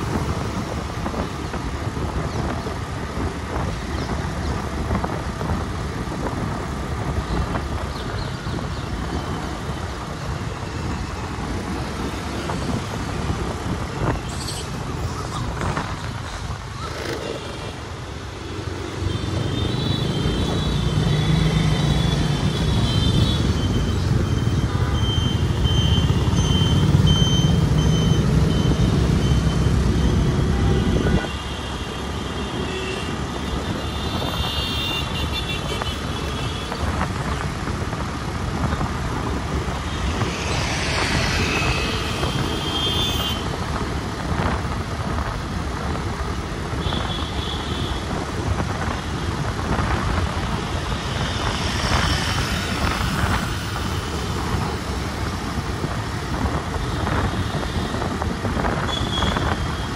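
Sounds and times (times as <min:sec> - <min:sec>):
road traffic: 0:00.0 - 0:59.9.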